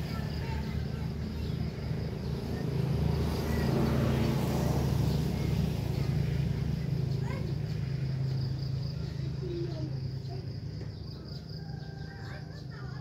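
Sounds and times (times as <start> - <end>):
high insect drone: 0.0 - 13.0
low engine hum: 0.0 - 13.0.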